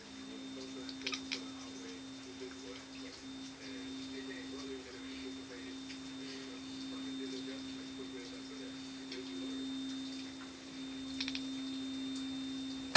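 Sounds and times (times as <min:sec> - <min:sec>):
steady hum-like tone: 0:00.0 - 0:12.9.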